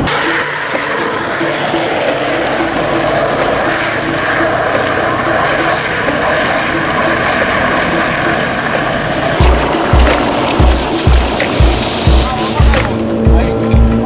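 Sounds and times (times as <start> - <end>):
skateboard wheels rolling on asphalt: 0.0 - 13.4.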